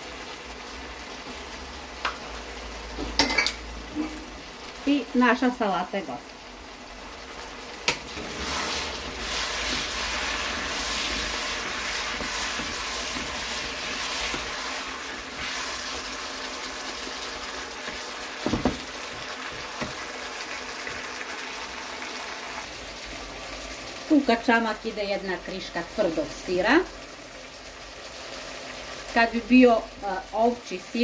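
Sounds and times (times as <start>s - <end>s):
meat and onions sizzling: 0.0s - 31.0s.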